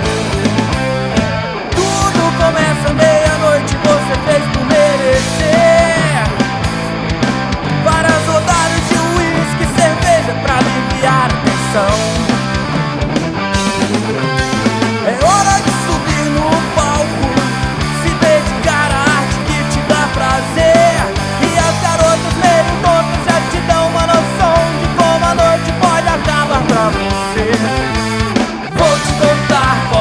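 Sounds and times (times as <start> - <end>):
bass: 0.0 - 30.0
drums: 0.0 - 30.0
guitars: 0.0 - 30.0.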